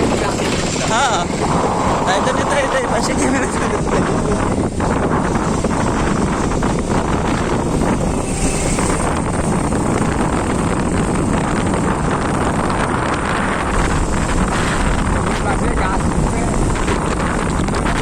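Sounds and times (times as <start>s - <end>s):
motorcycle engine: 0.0s - 18.0s
road noise: 0.0s - 18.0s
wind rush over microphone: 0.0s - 18.0s.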